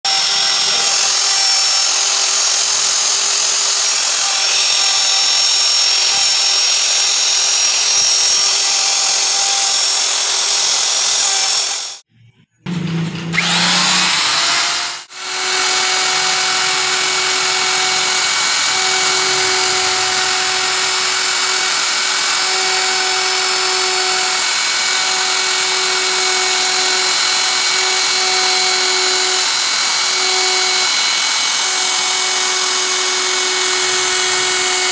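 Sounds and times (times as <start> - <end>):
router motor whine: 0.0 - 12.0, 12.7 - 34.9
wood cutting hiss: 0.0 - 12.0, 13.3 - 34.9.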